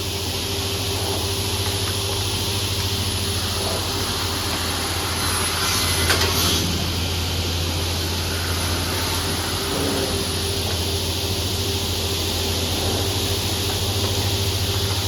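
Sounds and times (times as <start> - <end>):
cutting machine humming: 0.0 - 15.0.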